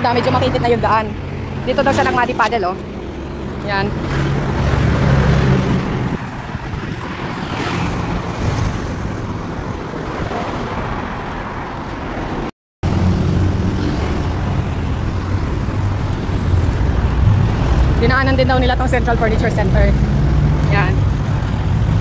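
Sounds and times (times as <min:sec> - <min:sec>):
road noise: 0:00.0 - 0:22.0
vehicle engines passing: 0:00.0 - 0:22.0.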